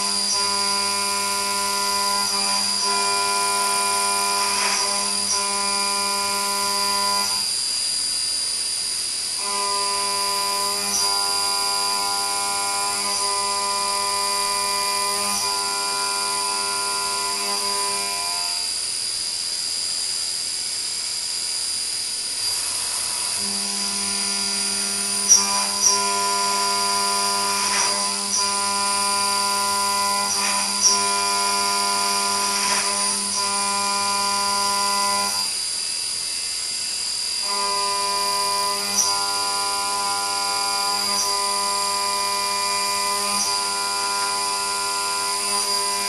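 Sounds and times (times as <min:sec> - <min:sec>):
end mill cutting whine: 0:00.0 - 0:07.6, 0:09.3 - 0:18.8, 0:22.3 - 0:36.7, 0:37.3 - 0:46.0
high-pitched machine whine: 0:00.0 - 0:46.0.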